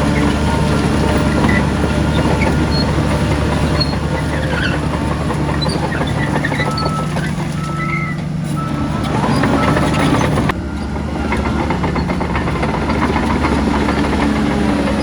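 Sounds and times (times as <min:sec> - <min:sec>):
dense rattle: 0:00.0 - 0:15.0
heavy diesel machinery engine drone: 0:00.0 - 0:15.0.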